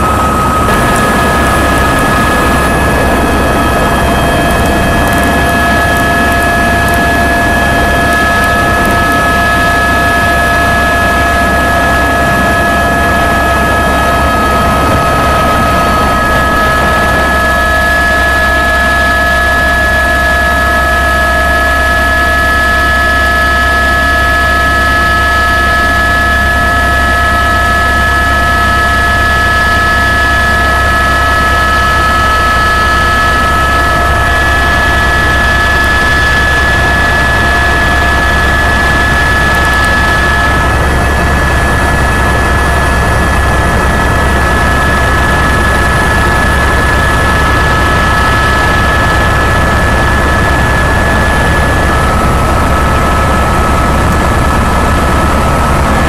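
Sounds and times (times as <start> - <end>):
high whining tones: 0.0 - 55.7
helicopter drone: 0.0 - 56.0.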